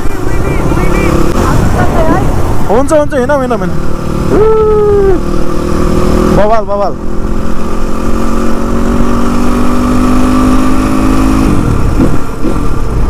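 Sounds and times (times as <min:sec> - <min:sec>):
low wind rumble: 0:00.0 - 0:13.0
motorcycle engine running: 0:00.0 - 0:13.0.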